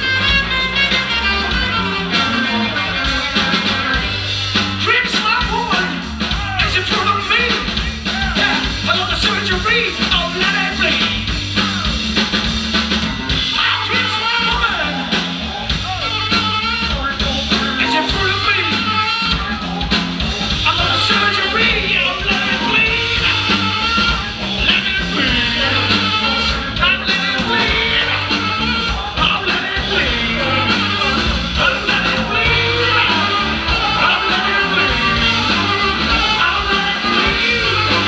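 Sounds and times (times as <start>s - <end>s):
live band playing: 0.0s - 38.0s.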